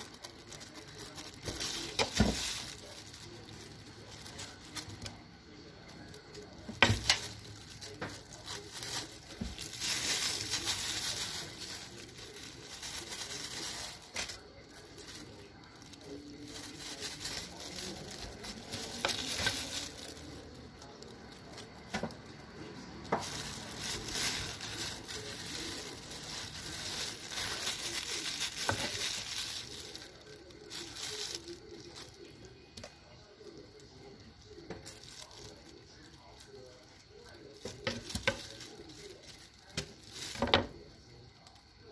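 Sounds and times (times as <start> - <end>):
plastic gloves crinkling: 0.0 - 41.9.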